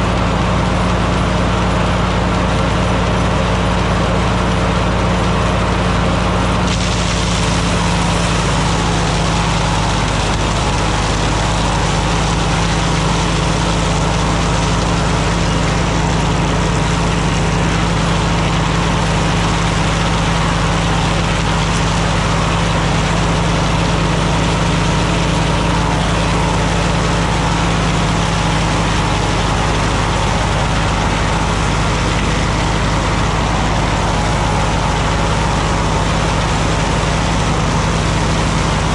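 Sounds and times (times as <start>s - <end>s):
tractor engine running under load: 0.0s - 38.9s
wood planer rushing noise: 0.0s - 38.9s.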